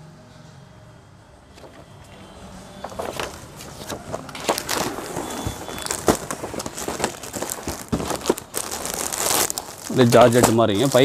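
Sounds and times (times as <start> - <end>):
plastic packaging crinkling: 1.6 - 11.0.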